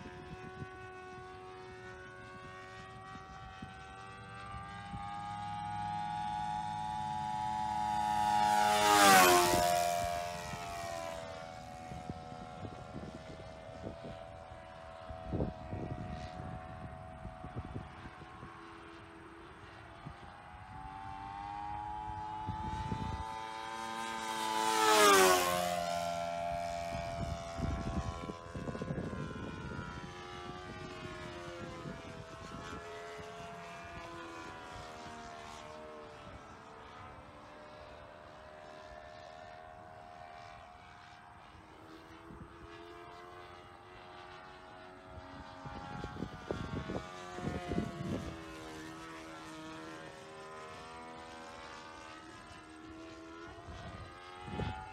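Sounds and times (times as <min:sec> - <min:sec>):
model plane engine and propeller: 0:00.0 - 0:54.9.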